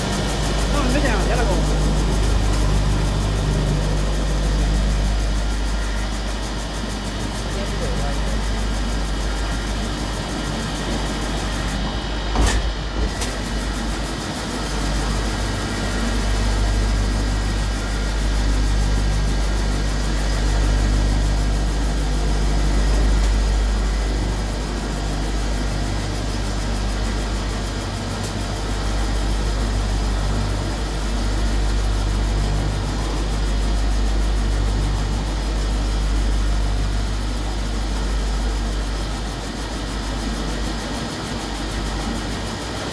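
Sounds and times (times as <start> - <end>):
polishing machine humming and whirring: 0.0 - 42.9.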